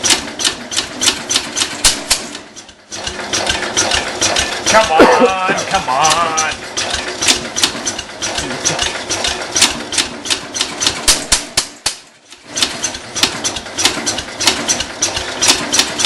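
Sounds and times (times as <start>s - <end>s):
engine cranking over: 0.0s - 16.0s.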